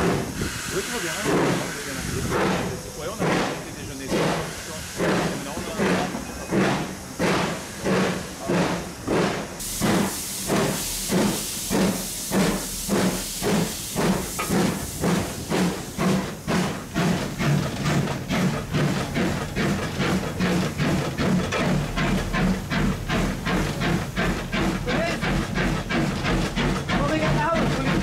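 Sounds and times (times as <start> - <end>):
steam hiss: 0.0 - 28.0
steam locomotive exhaust chuffing: 0.0 - 28.0.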